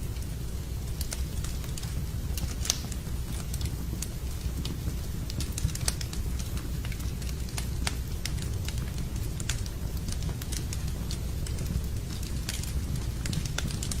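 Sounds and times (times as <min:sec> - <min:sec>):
campfire crackling and popping: 0:00.1 - 0:14.0.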